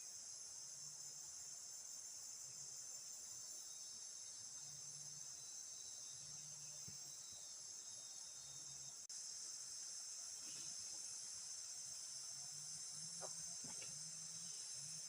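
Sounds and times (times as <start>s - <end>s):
crickets and cicadas chirping: 0.0s - 15.0s.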